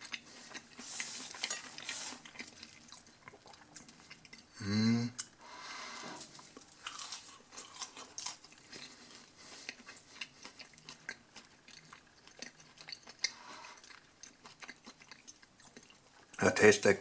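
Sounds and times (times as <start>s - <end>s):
person chewing crunchy food: 0.0s - 4.6s, 5.2s - 16.4s.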